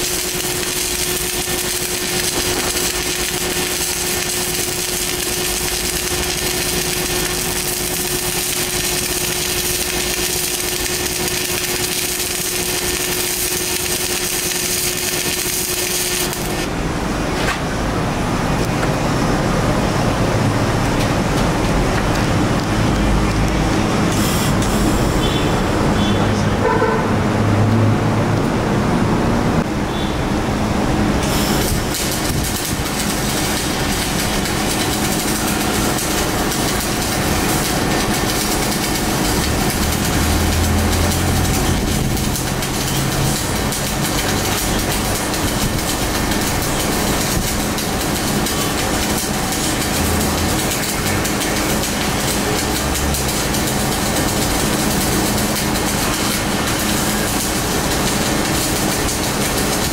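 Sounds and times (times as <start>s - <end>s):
welding arc crackling: 0.0s - 17.4s, 20.9s - 26.0s, 30.8s - 59.9s.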